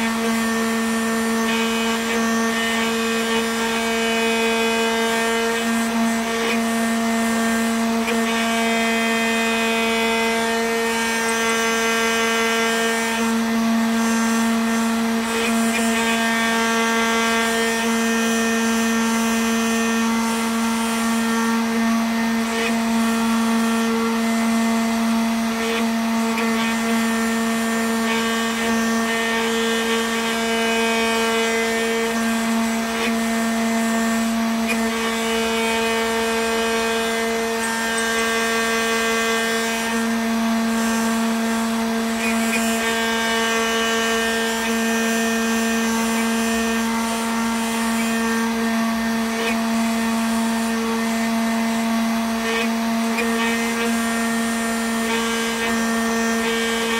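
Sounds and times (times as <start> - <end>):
cnc router machine hum: 0.0 - 56.9.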